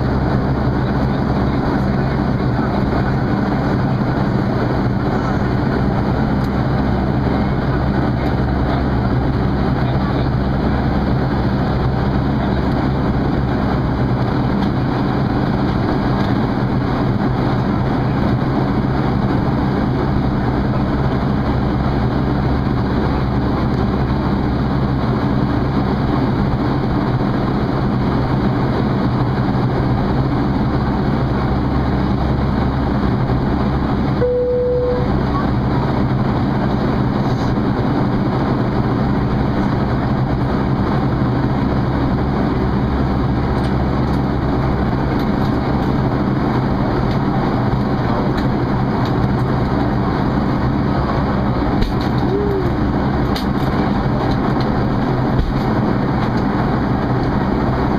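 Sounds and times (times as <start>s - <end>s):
airplane cabin drone: 0.0s - 57.9s.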